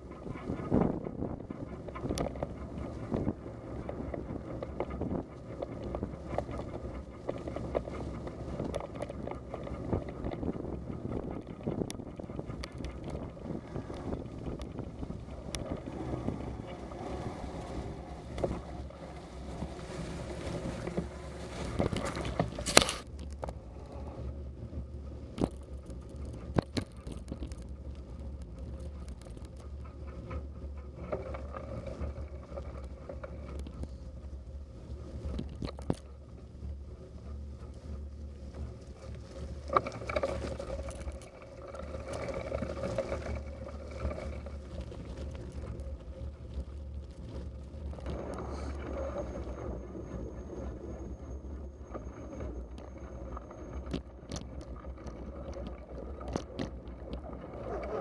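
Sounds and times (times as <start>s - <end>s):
bicycle tyres rumbling and rattling: 0.0s - 58.0s
wind on microphone: 0.0s - 58.0s.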